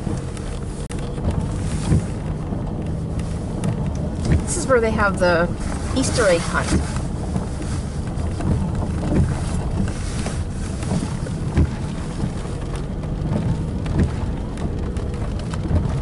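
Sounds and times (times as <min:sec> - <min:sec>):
car driving on wet road: 0:00.0 - 0:16.0
wind noise: 0:00.0 - 0:16.0.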